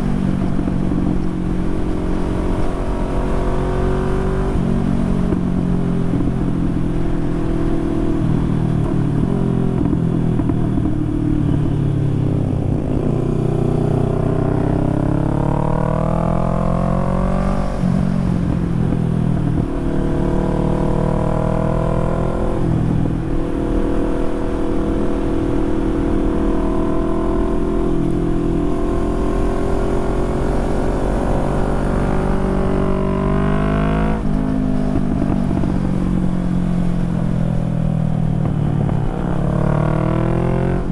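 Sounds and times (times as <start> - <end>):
motorcycle accelerating through gears: 0.0 - 40.9.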